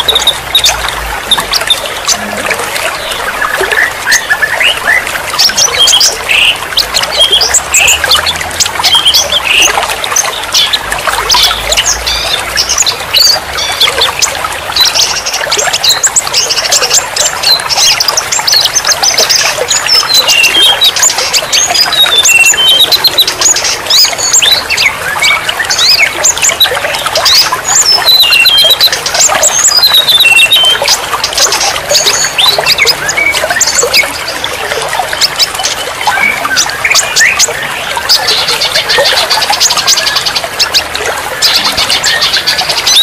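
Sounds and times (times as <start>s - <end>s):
songbirds chirping and whistling: 0.0s - 43.0s
trickling water: 0.0s - 43.0s.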